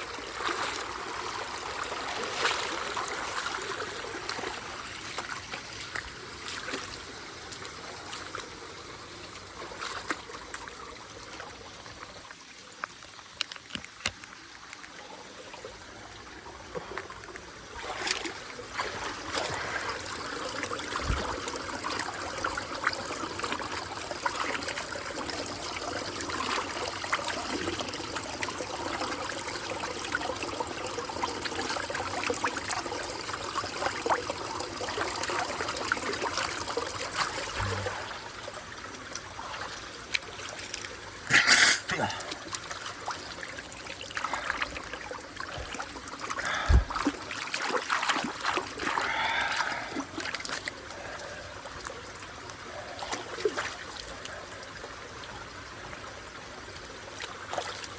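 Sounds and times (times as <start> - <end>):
water trickling and flowing: 0.0 - 57.9.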